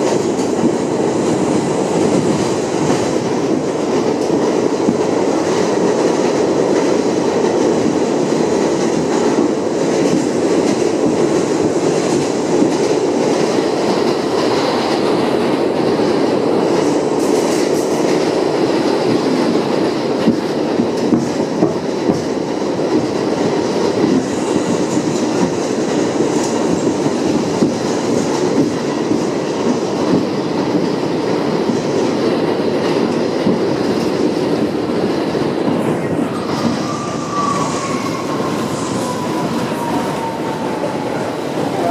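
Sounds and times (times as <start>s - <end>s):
rumble of wheels on rail: 0.0s - 41.9s.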